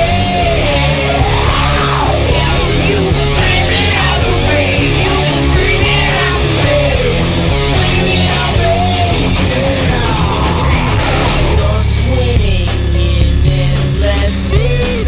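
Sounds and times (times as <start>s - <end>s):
distorted electric guitar: 0.0s - 13.1s
person singing: 0.0s - 15.0s
steady bass: 0.0s - 15.0s.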